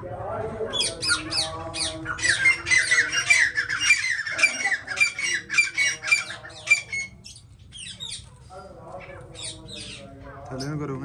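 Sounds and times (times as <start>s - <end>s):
caged birds squawking: 0.0s - 11.0s.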